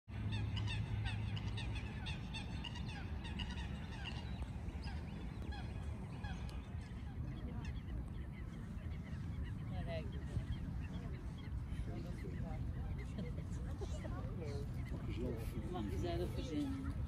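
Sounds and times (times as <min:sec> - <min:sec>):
flock of birds calling: 0:00.1 - 0:17.0
steady low rumble: 0:00.1 - 0:17.0.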